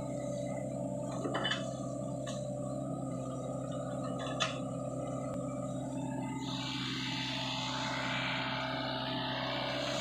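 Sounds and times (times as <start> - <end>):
excavator diesel engine humming: 0.0 - 10.0.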